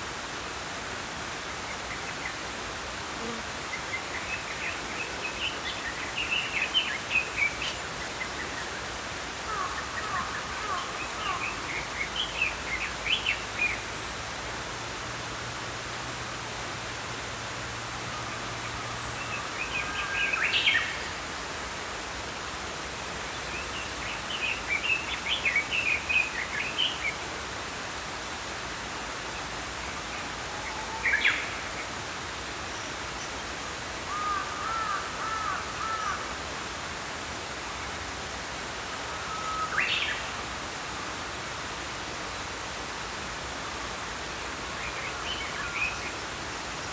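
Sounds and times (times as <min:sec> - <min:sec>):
stream water flowing: 0:00.0 - 0:46.9.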